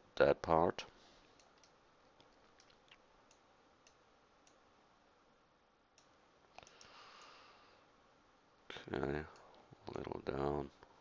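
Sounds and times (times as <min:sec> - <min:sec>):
soft hiss: 0:00.0 - 0:11.0.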